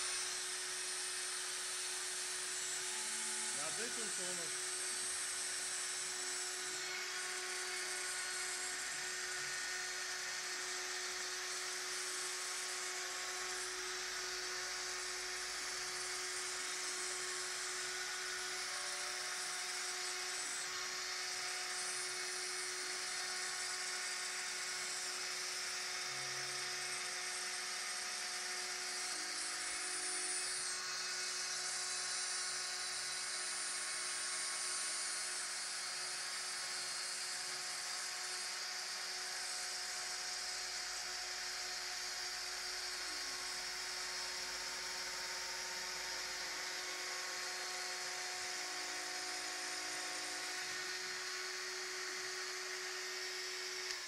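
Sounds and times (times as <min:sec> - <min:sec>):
router spindle milling wood: 0:00.0 - 0:54.0.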